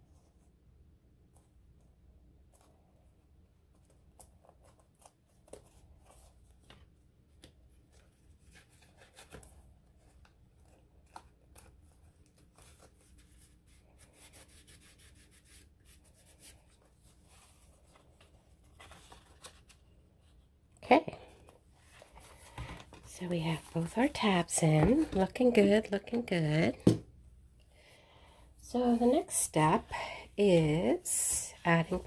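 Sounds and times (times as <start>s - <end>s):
paper and card rustling: 3.7s - 20.4s, 21.1s - 27.0s, 28.9s - 32.0s.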